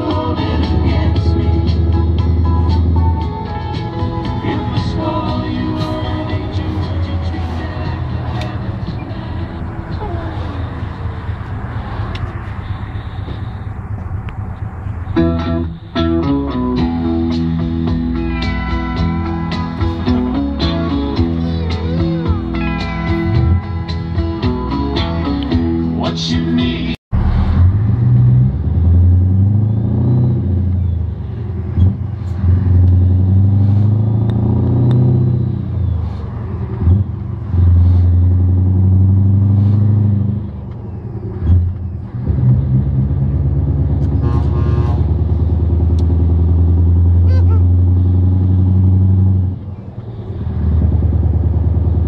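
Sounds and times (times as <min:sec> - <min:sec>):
diesel truck engine from cab: 0:00.0 - 0:52.0.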